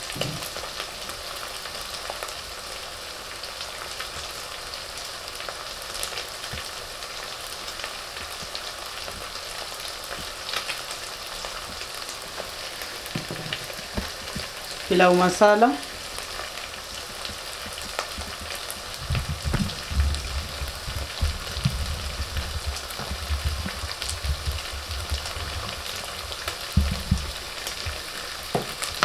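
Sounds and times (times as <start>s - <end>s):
food sizzling in hot oil: 0.0s - 29.0s
oil crackling and popping: 0.0s - 29.0s.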